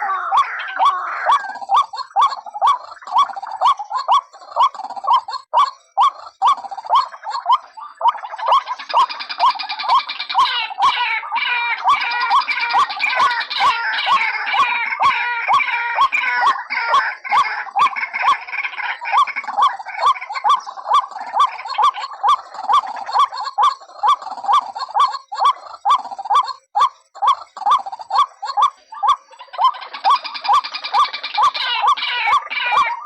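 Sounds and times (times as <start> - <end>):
waterhen calls: 0.0 - 33.0.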